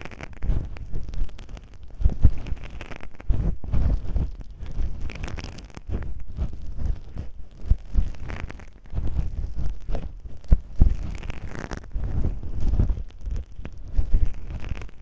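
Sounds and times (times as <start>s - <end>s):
tape rustling on microphone: 0.0s - 15.0s.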